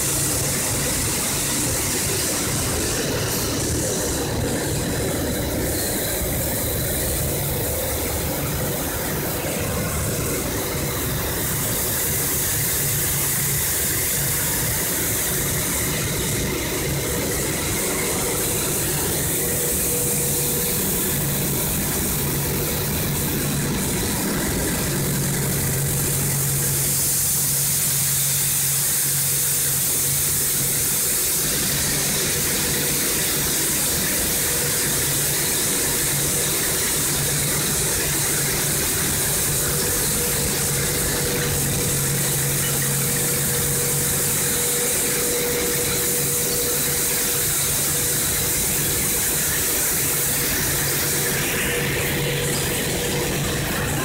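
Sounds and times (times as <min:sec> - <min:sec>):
machine hum: 0:00.0 - 0:54.0
plastic granules hissing through pipe: 0:00.0 - 0:54.0.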